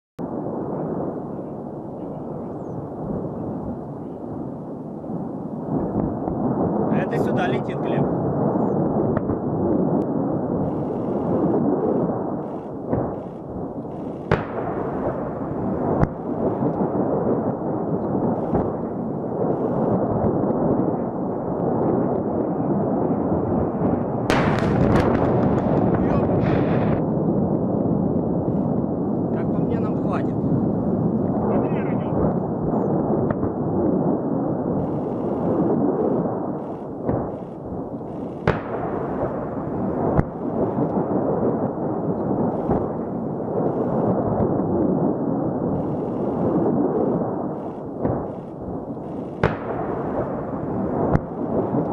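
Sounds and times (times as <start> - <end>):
low explosion rumble: 0.2 - 51.9
munitions detonating cracks: 5.6 - 51.9.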